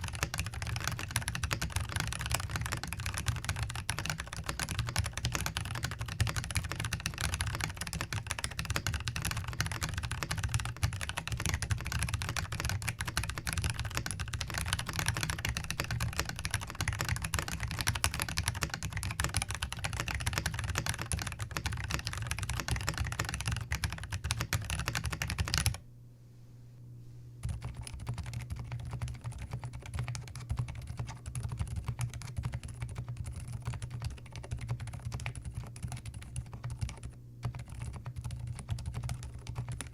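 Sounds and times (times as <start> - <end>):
fast mechanical keyboard typing: 0.0 - 25.8, 27.4 - 39.9
quiet keyboard typing: 0.0 - 25.8, 27.4 - 39.9.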